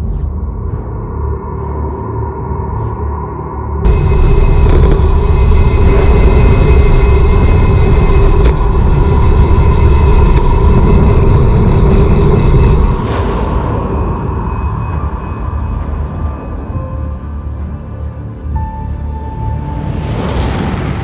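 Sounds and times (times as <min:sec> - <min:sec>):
held hum: 0:00.0 - 0:20.9
loud low rumble: 0:00.5 - 0:21.0.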